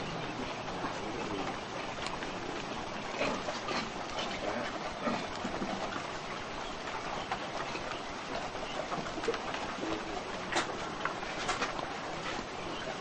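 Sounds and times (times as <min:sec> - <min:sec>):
quail pecking and rustling: 0:00.0 - 0:13.0.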